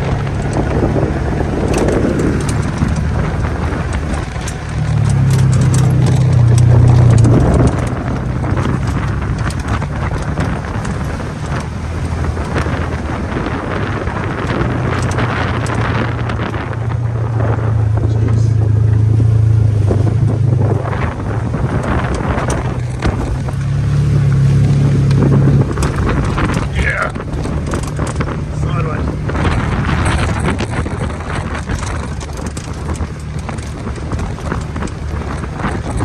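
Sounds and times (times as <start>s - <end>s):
clicks and knocks: 0.0s - 16.9s, 19.8s - 36.0s
vehicle engine running: 0.0s - 36.0s.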